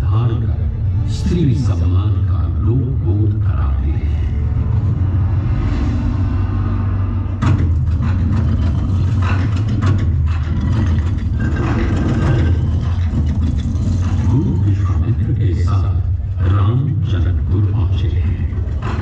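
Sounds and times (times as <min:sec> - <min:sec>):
soundtrack over loudspeakers: 0:00.0 - 0:19.0.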